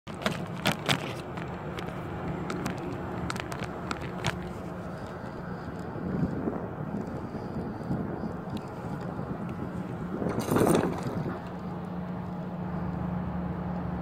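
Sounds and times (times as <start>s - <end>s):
low outdoor rumble: 0.1s - 14.0s.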